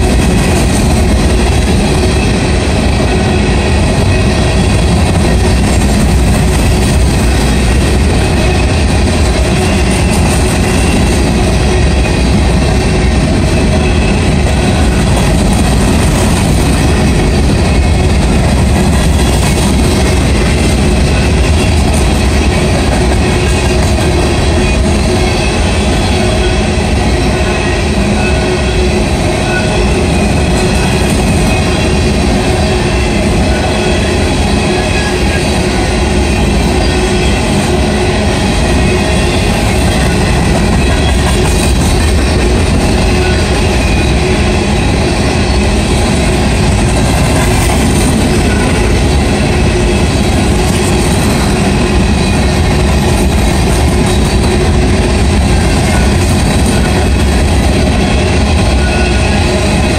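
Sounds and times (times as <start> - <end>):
rail car wheels rumbling: 0.0 - 59.9.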